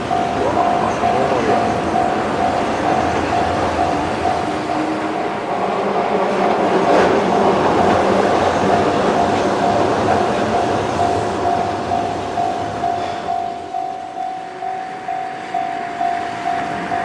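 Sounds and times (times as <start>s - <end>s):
electric train rumbling over bridge: 0.0s - 17.0s
level-crossing bell ringing: 0.0s - 17.0s
train wheel clatter: 0.0s - 17.0s.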